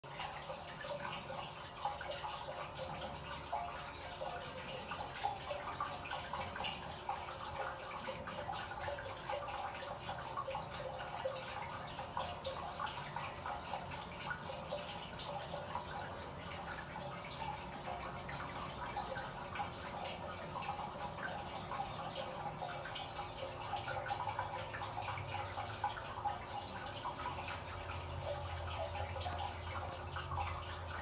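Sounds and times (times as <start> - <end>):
water dripping: 0.0 - 31.0.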